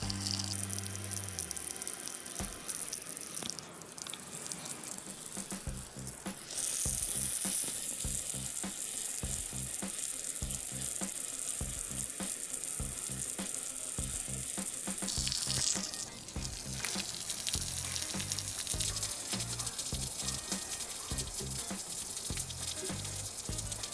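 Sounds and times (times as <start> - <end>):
background music: 0.0 - 3.2, 5.1 - 23.9
loud high hiss: 0.0 - 23.9.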